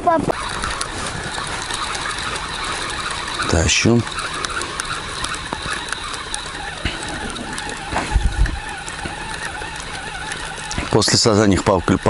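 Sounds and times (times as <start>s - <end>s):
fishing reel whirring: 0.0s - 12.0s
low bumps: 0.0s - 12.0s.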